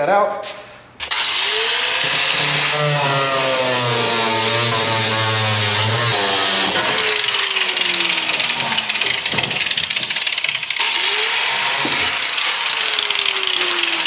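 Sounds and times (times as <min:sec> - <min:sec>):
power tool cutting plastic: 0:01.0 - 0:14.0.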